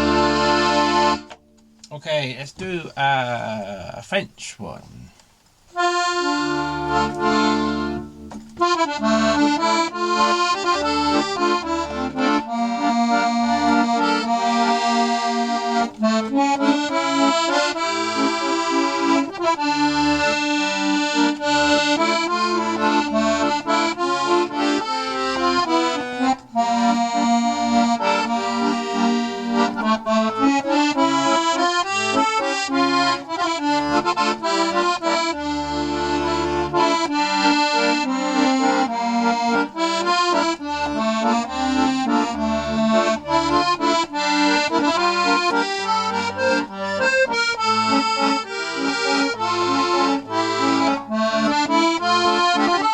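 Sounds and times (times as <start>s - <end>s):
accordion playing: 0.0s - 3.8s, 5.7s - 52.9s.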